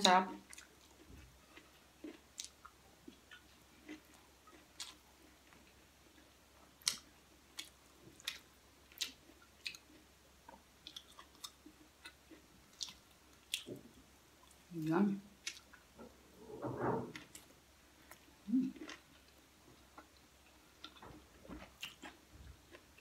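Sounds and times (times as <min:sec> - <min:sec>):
person chewing food: 0:00.4 - 0:14.7, 0:15.3 - 0:16.3, 0:17.1 - 0:23.0.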